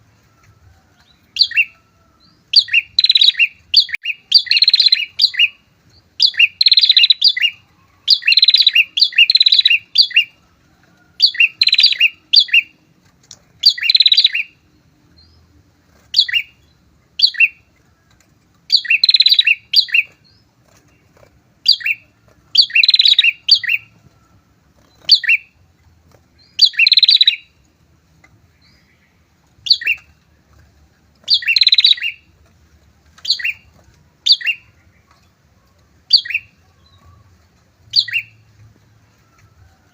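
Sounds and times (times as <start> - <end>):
birds rattling chirps: 0.0 - 39.9.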